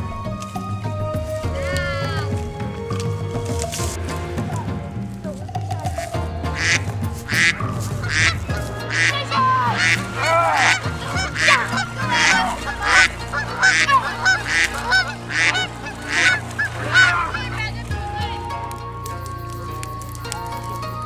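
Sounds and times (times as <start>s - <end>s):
geese honking: 1.3s - 21.0s.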